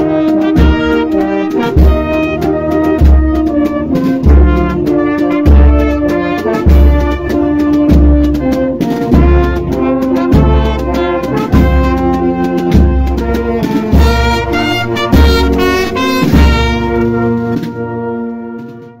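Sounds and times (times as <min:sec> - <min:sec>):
brass band playing: 0:00.0 - 0:19.0
bass drum beat: 0:00.1 - 0:18.0.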